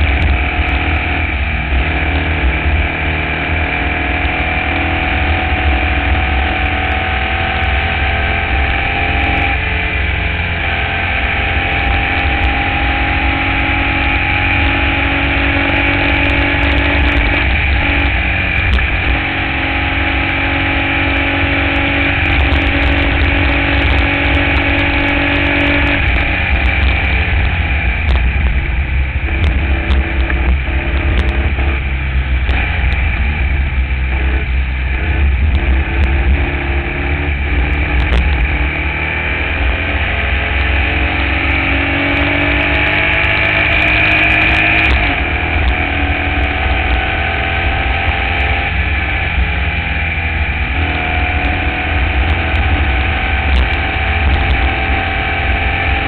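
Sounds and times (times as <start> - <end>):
race car engine revving: 0.0 - 56.0
wind rumble on microphone: 0.0 - 56.0.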